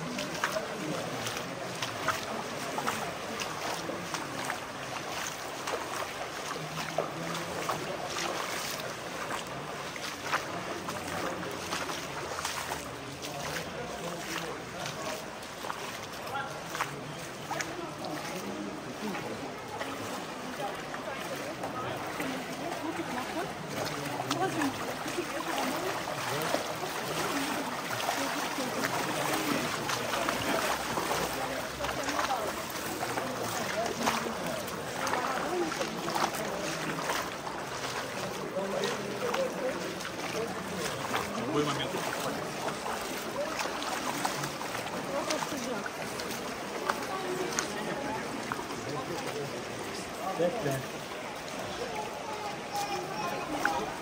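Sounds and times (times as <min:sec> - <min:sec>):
flowing water rushing: 0:00.0 - 0:54.0
footsteps splashing in water: 0:00.0 - 0:54.0.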